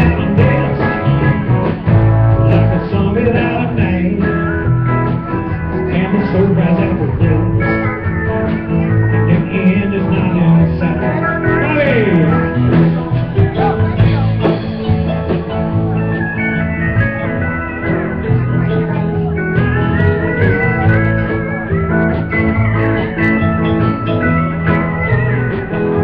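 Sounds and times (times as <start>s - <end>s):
country dance band playing: 0.0s - 26.0s
high lead melody: 0.0s - 26.0s.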